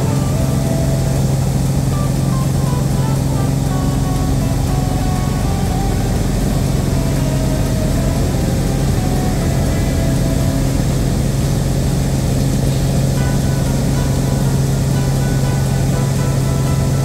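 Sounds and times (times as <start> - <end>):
airplane engine and propeller droning: 0.0 - 17.0.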